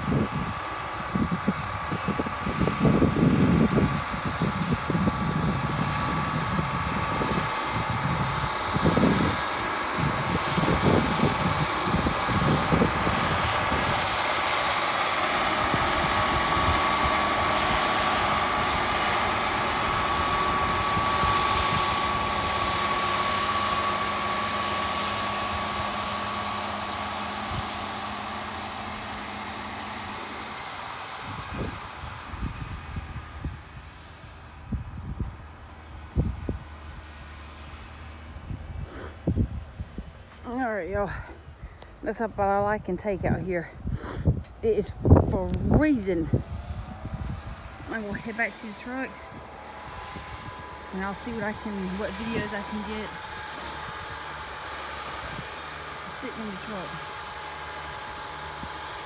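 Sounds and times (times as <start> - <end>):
wind buffeting microphone: 0.0 - 30.2, 31.0 - 59.0
steady whine: 0.0 - 59.0
tractor diesel engine under load: 0.0 - 59.0.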